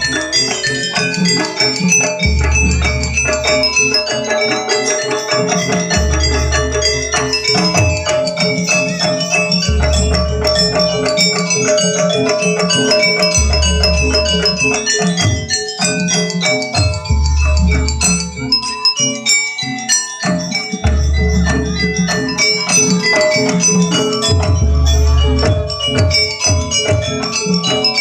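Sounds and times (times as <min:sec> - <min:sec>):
gamelan metallophones ringing: 0:00.0 - 0:28.0.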